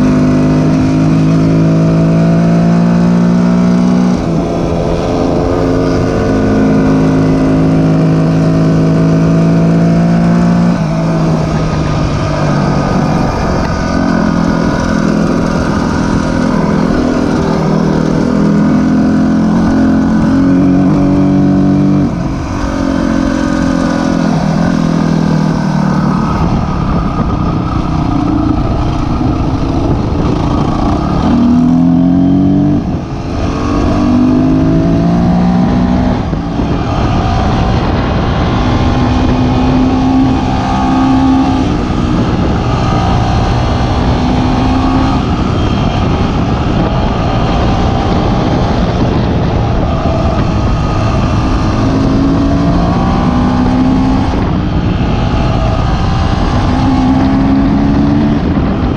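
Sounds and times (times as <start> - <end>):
dirt bike engine revving: 0.0 - 58.9
wind noise on microphone: 0.0 - 58.9.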